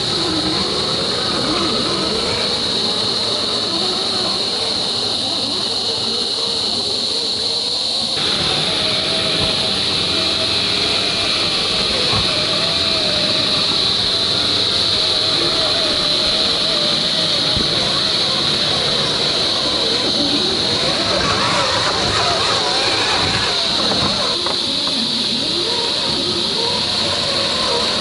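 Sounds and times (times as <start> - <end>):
high-pitched hiss: 0.0 - 28.0
toy car motor whining: 0.0 - 28.0.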